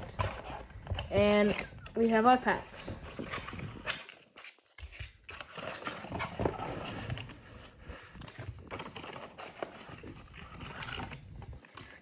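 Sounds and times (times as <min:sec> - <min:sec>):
cardboard packs rustling and tapping: 0:00.0 - 0:12.0.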